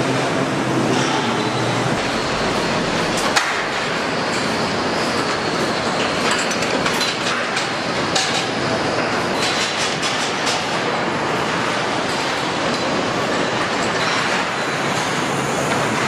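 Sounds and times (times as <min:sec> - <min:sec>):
clattering assembly line machinery: 0:00.0 - 0:16.0.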